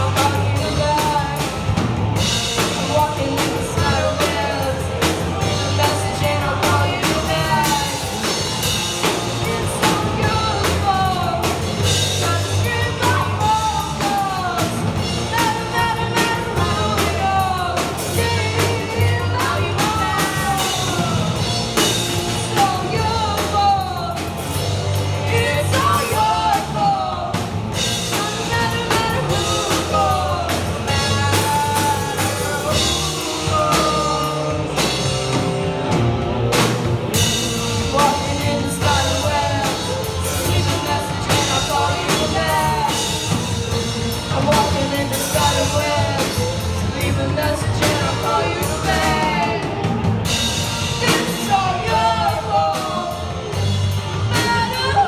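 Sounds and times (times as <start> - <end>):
rock band playing live: 0.0 - 55.0
person singing: 2.4 - 35.9, 37.3 - 55.0.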